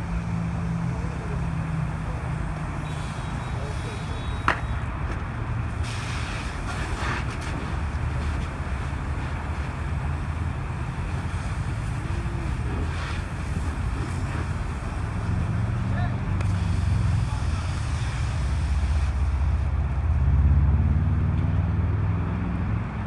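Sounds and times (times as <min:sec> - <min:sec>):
idling vehicle engines: 0:00.0 - 0:22.0
roadside traffic: 0:00.0 - 0:23.0.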